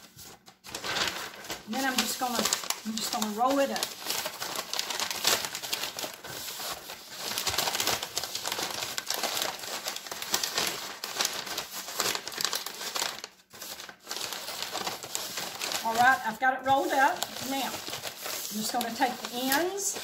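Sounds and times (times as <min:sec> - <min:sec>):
paper crinkling and rustling: 0:00.0 - 0:20.0.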